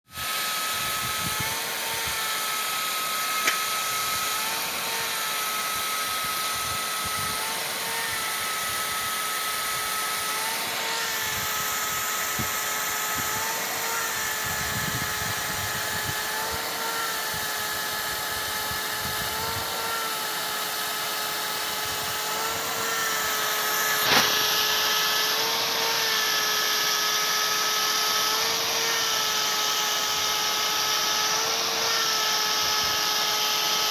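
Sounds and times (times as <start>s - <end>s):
irrigation pump motor whine: 0.1s - 33.9s.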